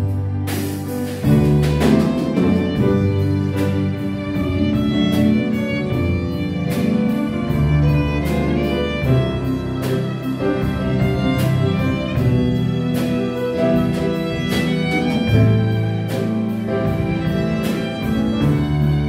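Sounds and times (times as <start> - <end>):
drum kit: 0.0 - 19.0
piano: 0.0 - 19.0
plucked double bass: 0.0 - 19.0
violin melody: 0.0 - 19.0.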